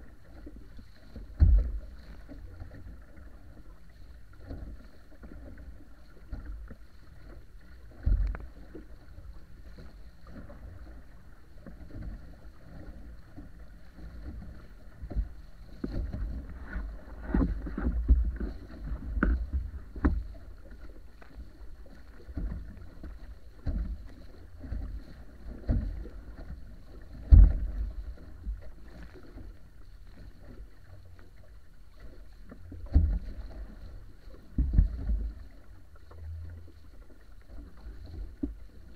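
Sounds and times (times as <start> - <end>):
hull slapping on waves: 0.0 - 38.9
water rushing along wooden hull: 0.0 - 38.9.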